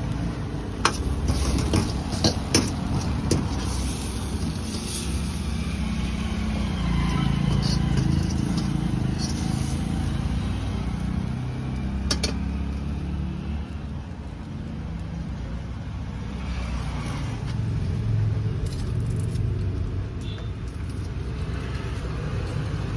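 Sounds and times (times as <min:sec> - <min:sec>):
vehicle engines rumbling: 0:00.0 - 0:22.9.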